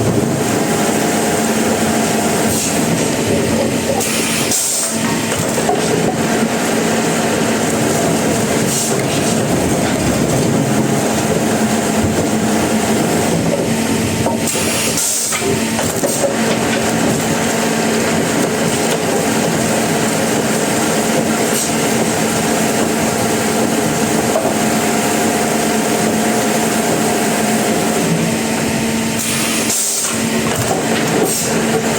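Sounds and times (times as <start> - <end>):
sawmill machinery running: 0.0 - 31.9.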